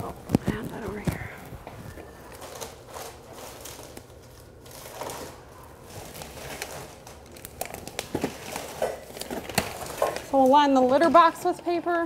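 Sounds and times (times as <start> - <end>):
newspaper rustling: 0.0 - 11.9.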